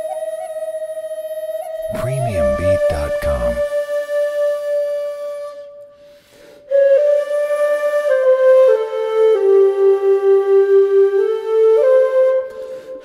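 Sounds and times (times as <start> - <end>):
solo wind instrument melody: 0.0 - 6.1, 6.7 - 13.0.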